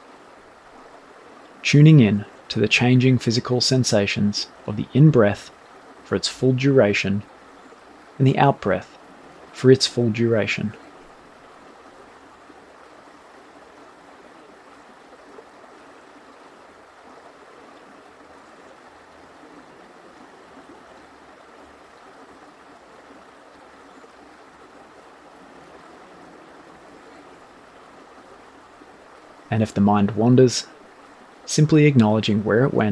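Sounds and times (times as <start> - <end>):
forest creek babbling: 0.0 - 32.9.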